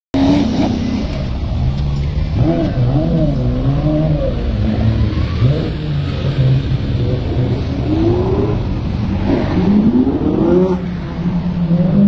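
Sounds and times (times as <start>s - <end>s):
sports cars driving past revving: 0.2s - 12.0s.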